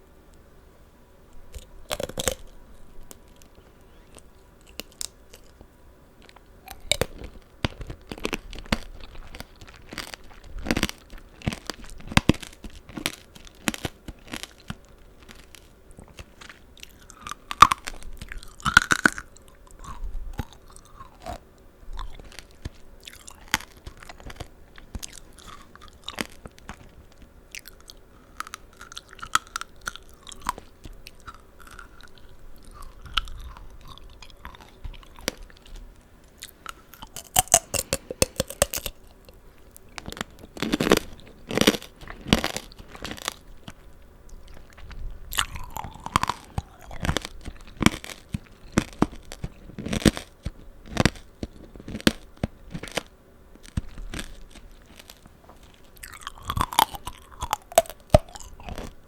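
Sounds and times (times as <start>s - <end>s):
candy shell crunching: 1.5s - 5.6s, 6.2s - 59.0s.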